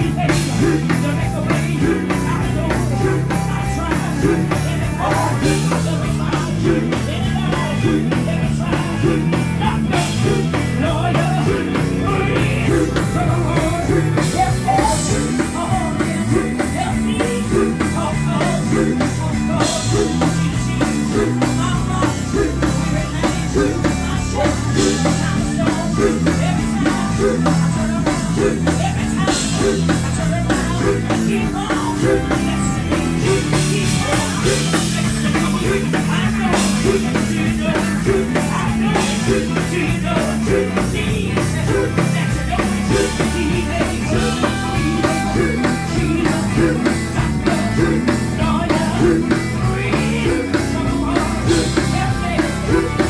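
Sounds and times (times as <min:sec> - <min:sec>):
drums: 0:00.0 - 0:53.0
live gospel band playing: 0:00.0 - 0:53.0
person singing: 0:00.0 - 0:53.0.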